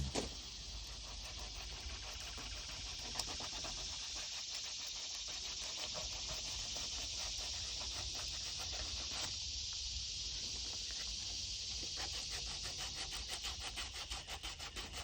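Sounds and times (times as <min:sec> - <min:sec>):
sandpaper rubbing on plastic pipe: 0:00.0 - 0:09.4, 0:10.8 - 0:15.0
high insect buzz: 0:00.0 - 0:15.0.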